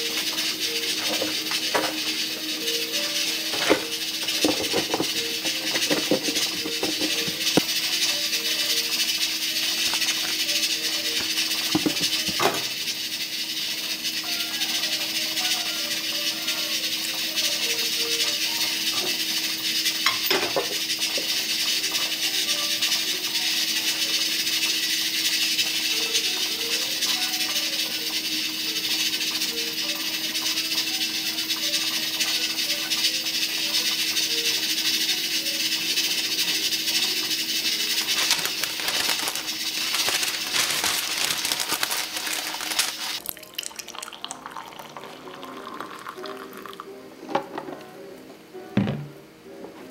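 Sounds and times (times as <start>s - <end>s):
steady rushing hiss: 0.0s - 43.2s.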